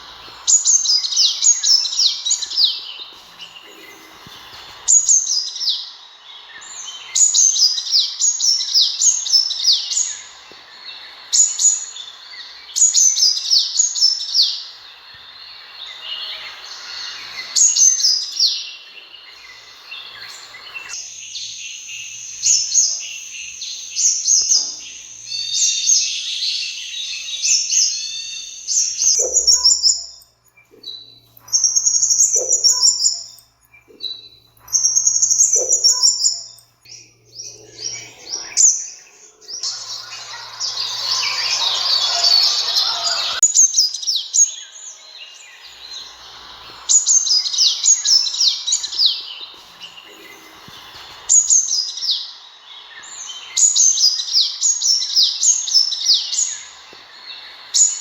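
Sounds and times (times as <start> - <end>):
background hiss: 0.0 - 58.0
sunbirds chirping: 0.0 - 58.0.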